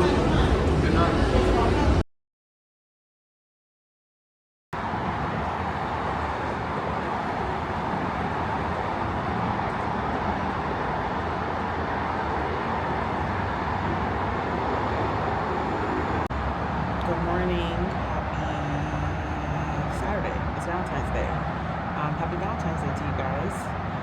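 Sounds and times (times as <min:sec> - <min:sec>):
road traffic rumble: 0:00.0 - 0:02.0, 0:04.8 - 0:24.0.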